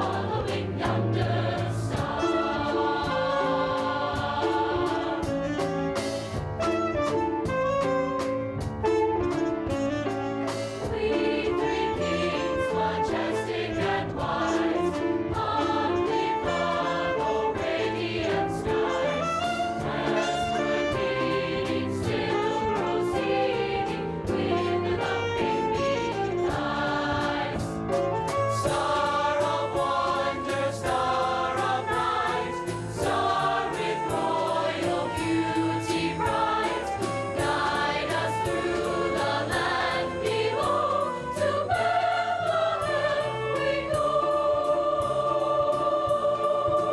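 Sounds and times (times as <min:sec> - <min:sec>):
choir singing: 0:00.0 - 0:05.6, 0:10.8 - 0:27.8, 0:28.6 - 0:46.9
instrumental accompaniment: 0:00.0 - 0:46.9.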